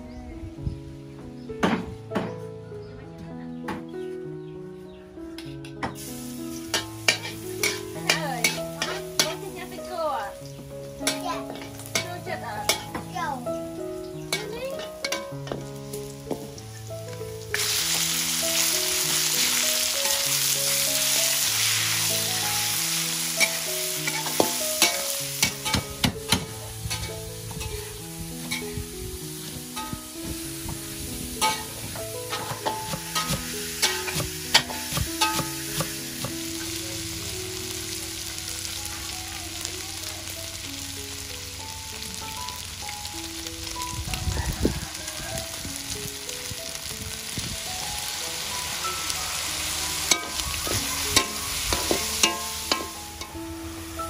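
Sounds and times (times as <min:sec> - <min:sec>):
soft melodic music: 0:00.0 - 0:54.0
meat sizzling in a wok: 0:05.9 - 0:54.0.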